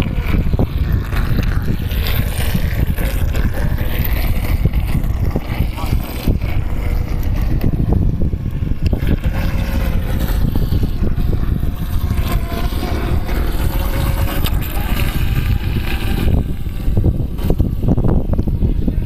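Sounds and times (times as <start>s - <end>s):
faint motorboat hum: 0.0s - 19.0s
wind noise on microphone: 0.0s - 19.0s.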